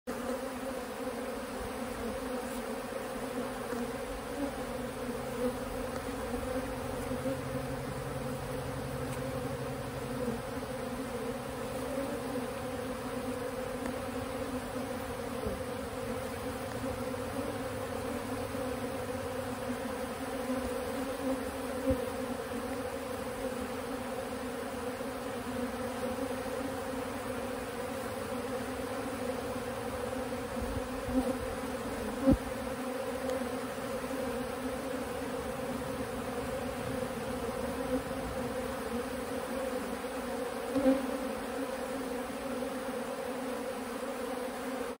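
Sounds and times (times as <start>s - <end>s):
honeybees buzzing: 0.1s - 45.0s.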